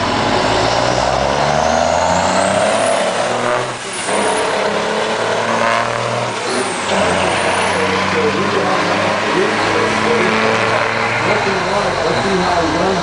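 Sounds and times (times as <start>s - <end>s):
diesel trucks racing at full throttle: 0.0s - 13.0s.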